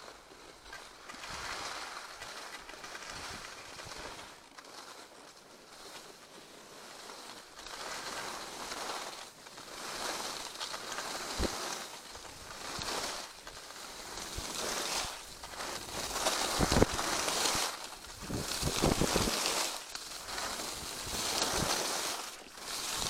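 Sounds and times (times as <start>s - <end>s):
skis scraping over snow: 0.0s - 23.0s.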